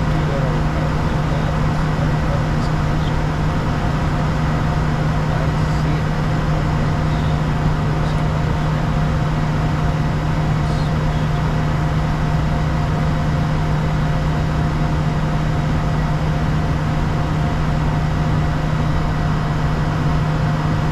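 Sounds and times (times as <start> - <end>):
constant low hum: 0.0 - 20.9
jet engine and airflow rush: 0.0 - 20.9.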